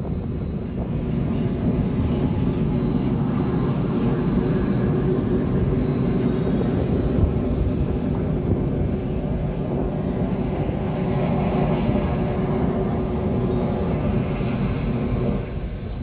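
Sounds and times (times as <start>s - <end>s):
distant jet engines rumbling: 0.0s - 16.0s
faint high whine: 0.0s - 16.0s.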